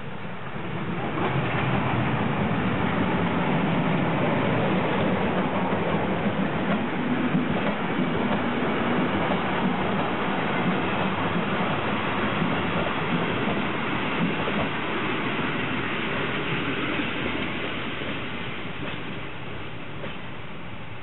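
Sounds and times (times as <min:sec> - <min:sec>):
train rolling past on rails: 0:00.0 - 0:21.0.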